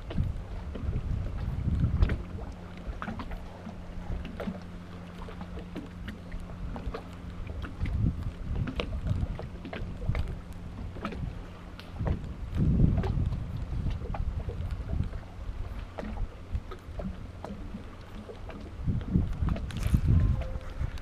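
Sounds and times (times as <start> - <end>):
steady low hum: 0.0 - 21.0
water slapping against boat hull: 0.0 - 21.0.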